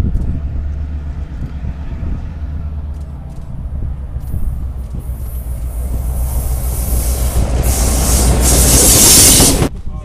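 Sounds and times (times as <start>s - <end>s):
locomotive rushing past: 0.0s - 9.9s
diesel locomotive engine drone: 0.0s - 10.0s.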